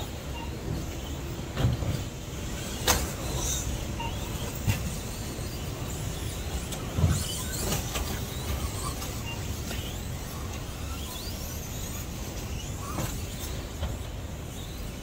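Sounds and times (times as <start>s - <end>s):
electric toy truck motors whining: 0.0s - 15.0s.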